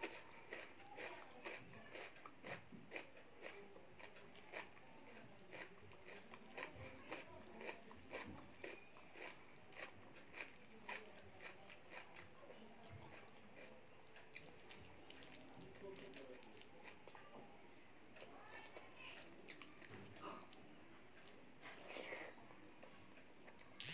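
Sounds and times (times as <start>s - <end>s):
wet chewing smacks: 0.0s - 17.2s, 18.2s - 23.8s
soft squishing of food by hand: 0.0s - 23.9s.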